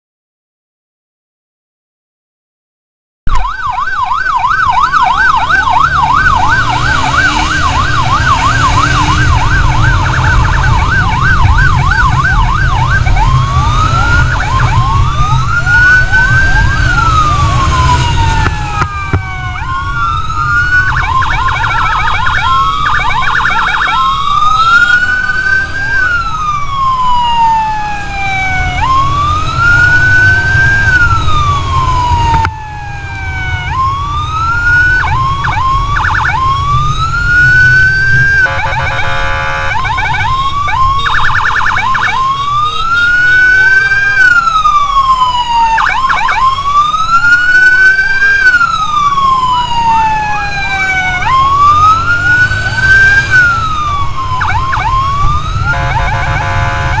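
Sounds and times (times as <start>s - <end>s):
electronic siren wailing and yelping: 3.3s - 57.0s
motorcycle engine rumble: 3.3s - 57.0s
wind: 3.3s - 57.0s.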